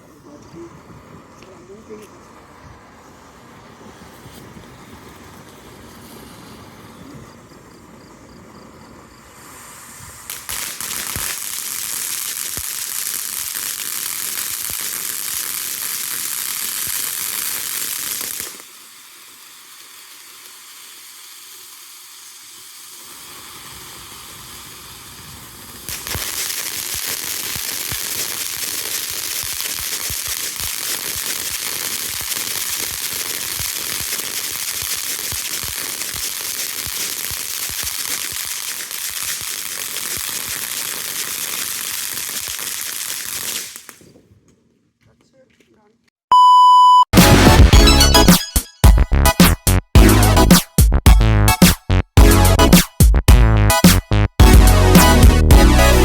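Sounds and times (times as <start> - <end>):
firework hissing and crackling: 0.0 - 44.4, 47.2 - 50.9, 53.8 - 56.0.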